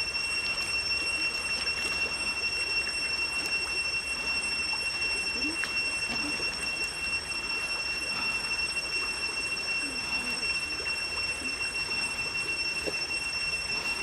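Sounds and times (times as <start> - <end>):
high-pitched drone: 0.0 - 14.0.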